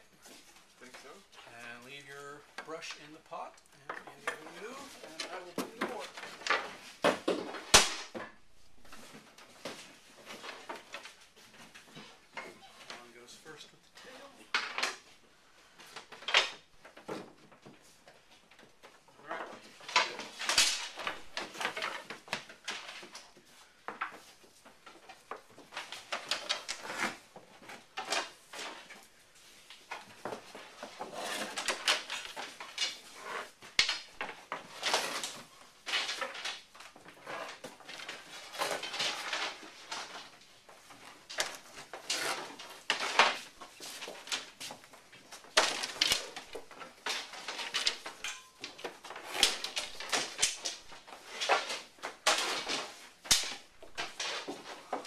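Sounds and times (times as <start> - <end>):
wooden bars clacking: 2.2 - 13.1, 14.0 - 15.2, 15.8 - 55.0.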